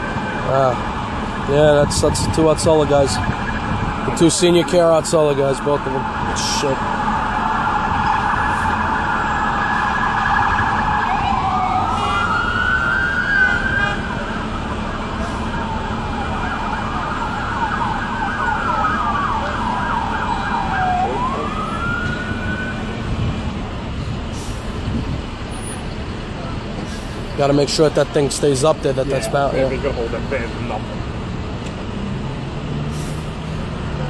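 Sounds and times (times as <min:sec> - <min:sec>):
emergency vehicle siren: 0:00.0 - 0:34.0
street traffic noise: 0:00.0 - 0:34.0.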